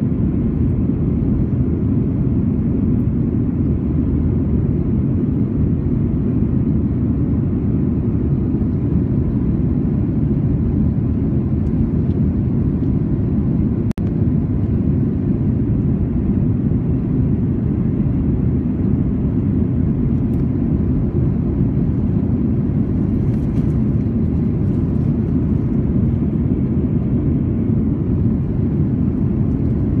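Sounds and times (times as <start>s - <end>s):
airplane cabin roar: 0.0s - 30.0s.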